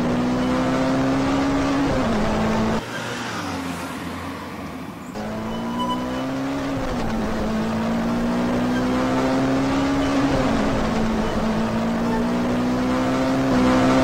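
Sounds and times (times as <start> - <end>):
car engine accelerating: 0.0 - 2.8, 5.2 - 14.0.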